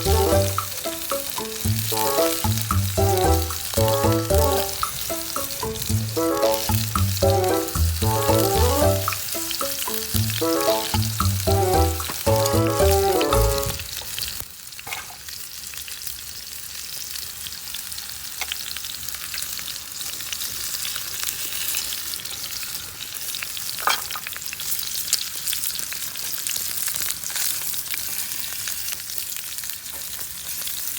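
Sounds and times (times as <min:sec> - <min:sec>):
steak sizzling in a skillet: 0:00.0 - 0:30.9
sharp pops from frying: 0:00.1 - 0:22.5, 0:23.1 - 0:30.9.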